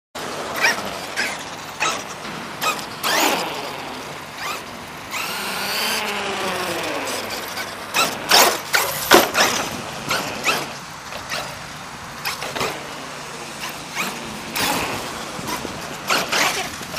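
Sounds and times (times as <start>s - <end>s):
electric motor whining: 0.3s - 16.9s.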